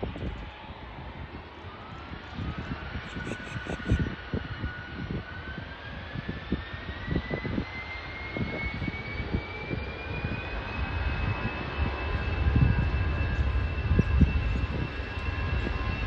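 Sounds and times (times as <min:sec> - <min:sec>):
jet engines spooling up: 0:00.0 - 0:16.0.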